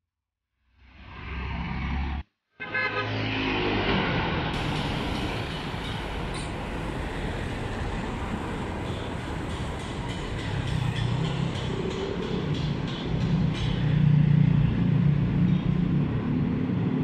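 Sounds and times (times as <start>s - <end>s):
cars passing: 0.9s - 17.0s.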